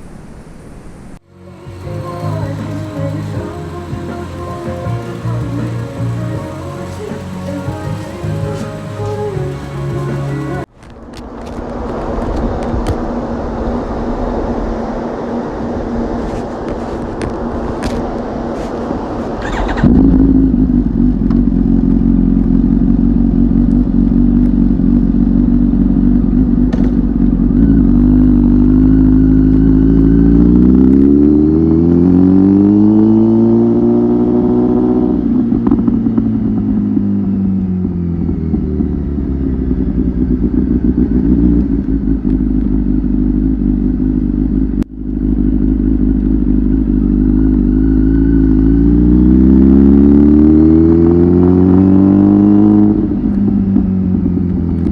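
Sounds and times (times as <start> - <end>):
motorcycle engine accelerating: 1.1 - 54.9.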